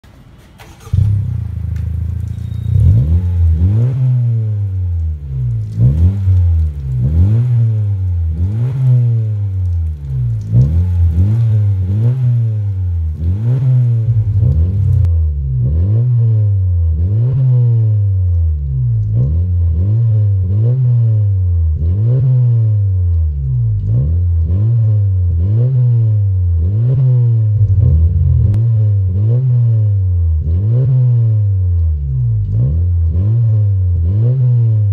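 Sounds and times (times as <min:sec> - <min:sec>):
car engine revving: 0:00.6 - 0:34.9.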